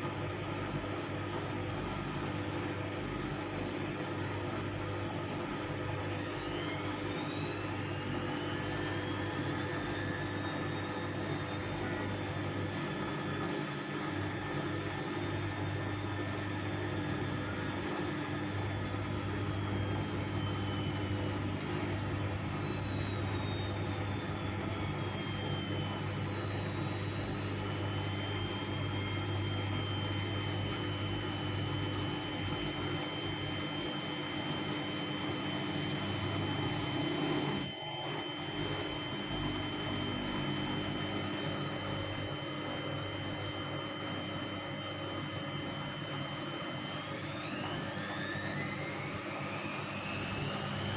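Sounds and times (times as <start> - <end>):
washing machine spinning whine: 0.0 - 50.9.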